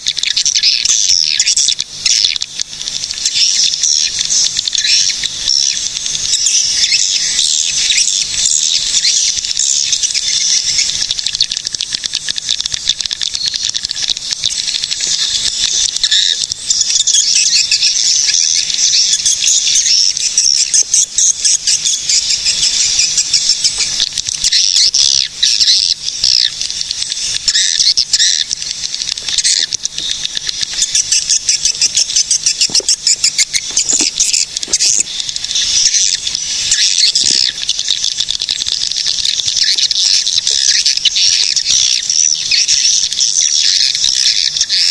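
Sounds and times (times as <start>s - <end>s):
swiftlets twittering: 0.0s - 44.9s.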